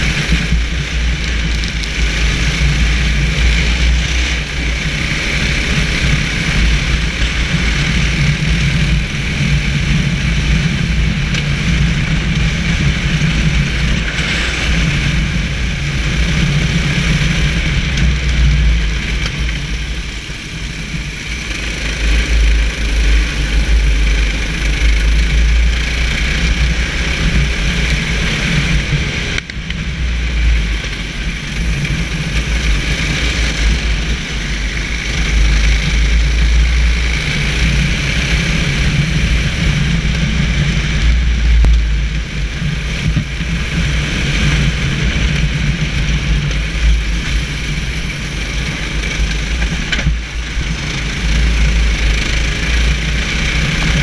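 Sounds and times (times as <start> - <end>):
deep rumble: 0.0 - 54.0
kart engine under throttle: 0.0 - 54.0.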